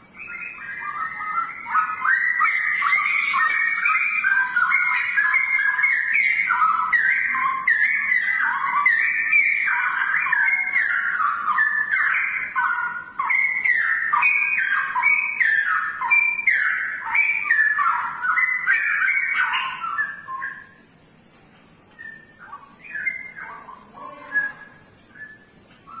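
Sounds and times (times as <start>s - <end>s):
bird warbling song: 0.0s - 21.0s, 21.9s - 26.0s.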